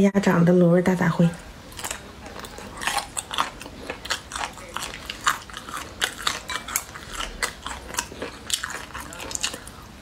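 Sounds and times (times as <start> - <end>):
crunchy chewing and biting: 1.6 - 10.0.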